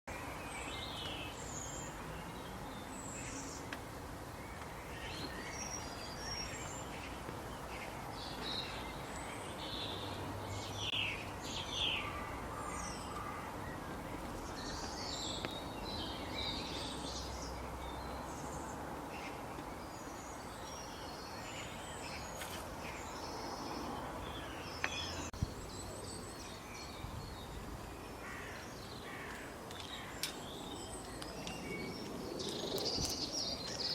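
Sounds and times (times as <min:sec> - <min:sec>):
steady outdoor hiss: 0:00.1 - 0:33.9
birds chirping and calling: 0:00.2 - 0:27.4.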